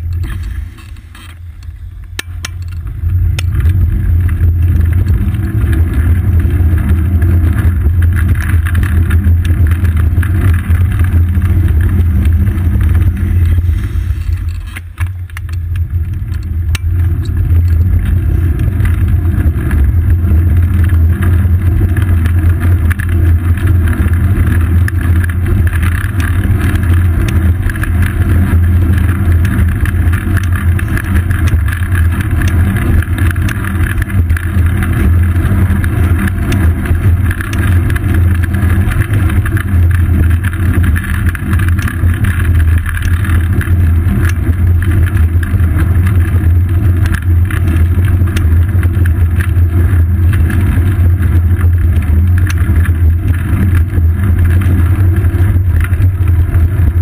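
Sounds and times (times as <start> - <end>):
bicycle ticks and rattles: 0.0 - 57.0
wind and road rumble: 0.0 - 57.0.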